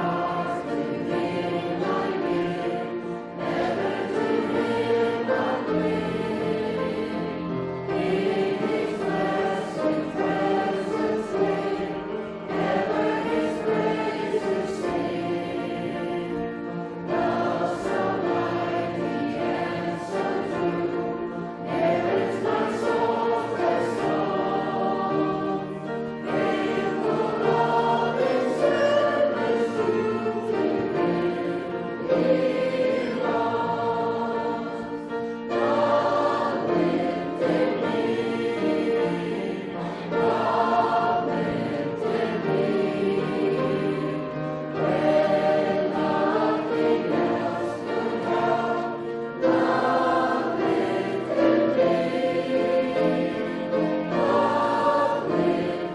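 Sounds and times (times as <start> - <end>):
congregation singing a hymn: 0.0 - 55.9.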